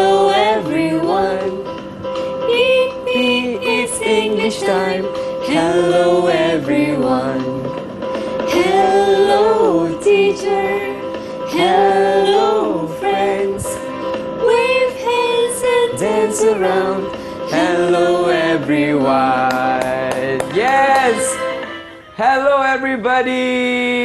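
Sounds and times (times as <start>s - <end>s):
backing music: 0.0s - 24.0s.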